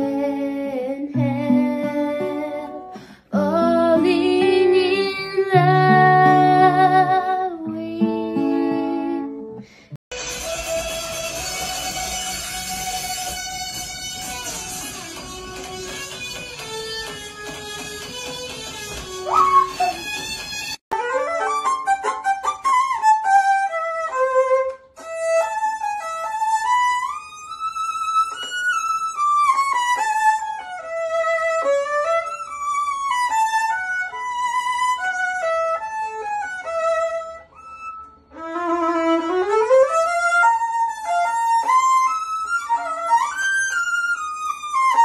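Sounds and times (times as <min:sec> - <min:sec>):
guitar-backed music: 0:01.1 - 0:45.0
solo violin melody: 0:01.1 - 0:45.0.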